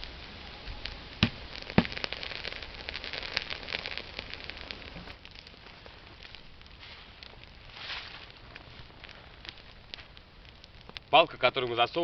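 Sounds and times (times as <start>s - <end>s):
log fire crackling and popping: 0.0s - 12.0s.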